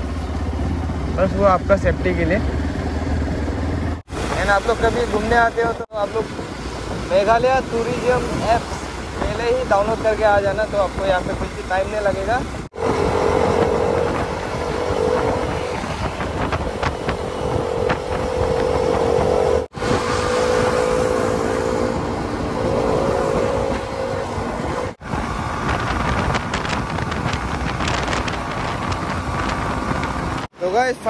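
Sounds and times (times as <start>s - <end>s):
motorcycle engine running: 0.0s - 5.8s, 8.8s - 30.5s
wind rush over microphone: 0.0s - 30.5s.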